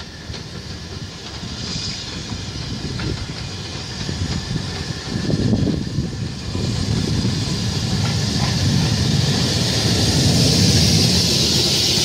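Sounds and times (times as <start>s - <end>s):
steam locomotive hissing: 0.0s - 12.0s
train wheels rumbling on rails: 0.0s - 12.0s.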